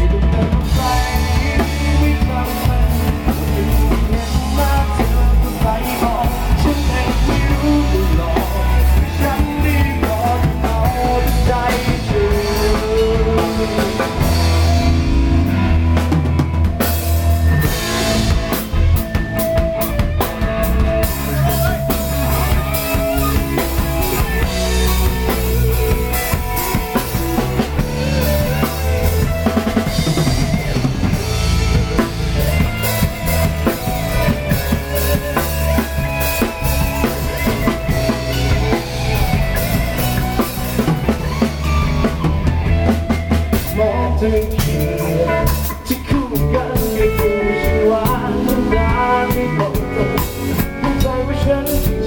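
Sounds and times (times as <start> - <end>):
pop-rock band playing: 0.0 - 52.0.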